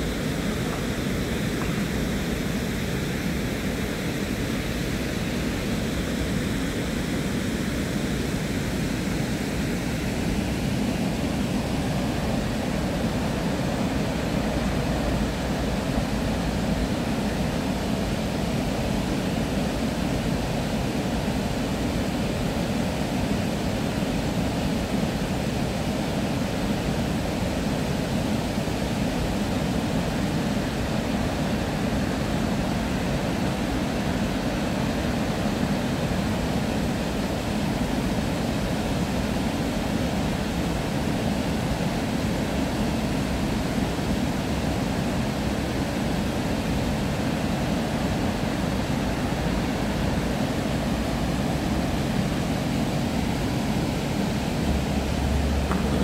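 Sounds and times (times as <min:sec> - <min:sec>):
river water rushing over weir: 0:00.0 - 0:56.0.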